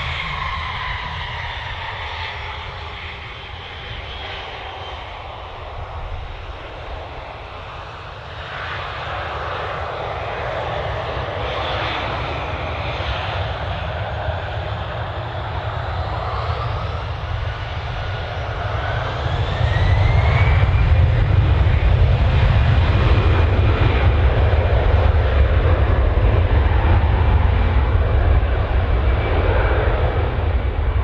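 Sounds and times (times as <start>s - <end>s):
airliner engines rumbling: 0.0s - 31.0s
engine whine: 0.0s - 31.0s.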